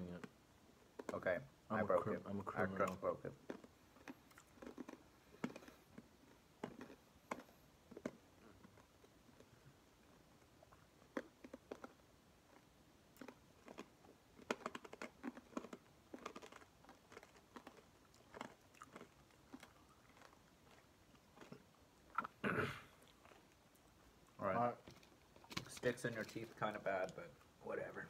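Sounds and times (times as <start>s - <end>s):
hard candy crunching in mouth: 2.3s - 27.6s.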